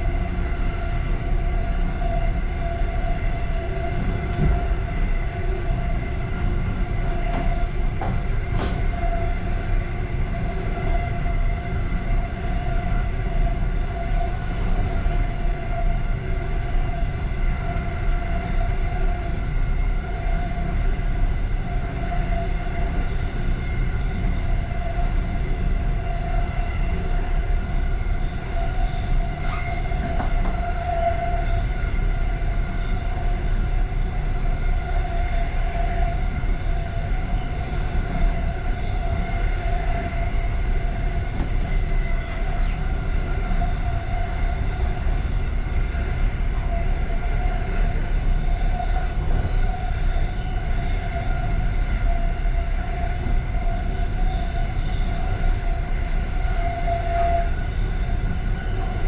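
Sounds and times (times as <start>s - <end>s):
steady whine: 0.0s - 59.0s
train wheels rumbling: 0.0s - 59.0s.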